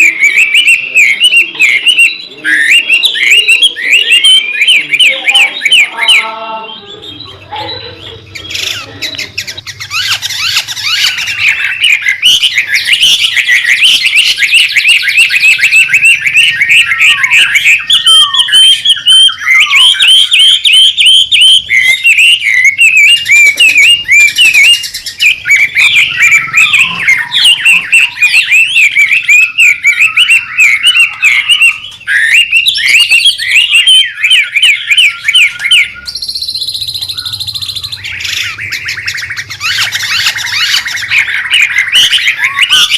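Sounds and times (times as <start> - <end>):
songbird singing fast whistled song: 0.0 - 7.4, 8.3 - 42.9.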